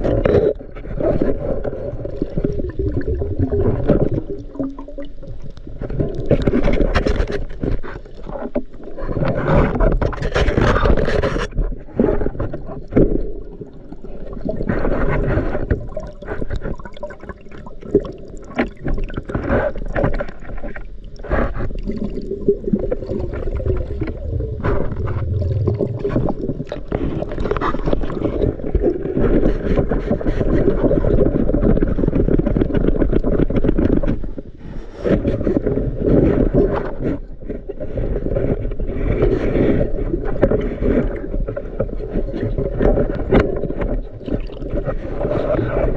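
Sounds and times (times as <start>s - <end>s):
muffled underwater gurgling: 0.0s - 45.9s.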